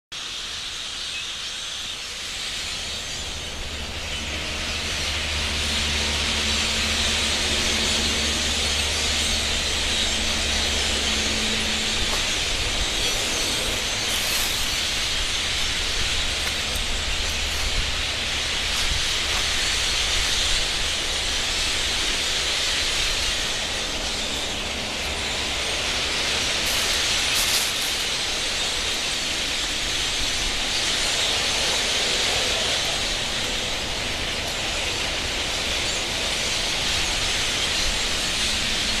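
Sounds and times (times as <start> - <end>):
flock of blackbirds calling: 0.2 - 39.0.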